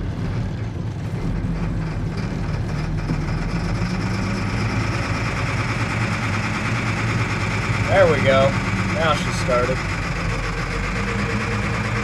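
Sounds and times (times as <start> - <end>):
tractor diesel engine starting: 0.0 - 12.0.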